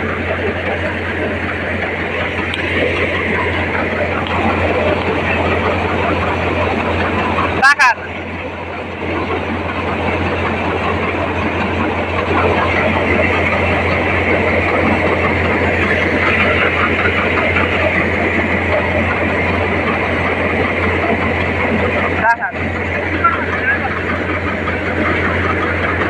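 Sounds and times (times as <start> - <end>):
low hum: 0.0 - 26.0
thresher machine running: 0.0 - 26.0.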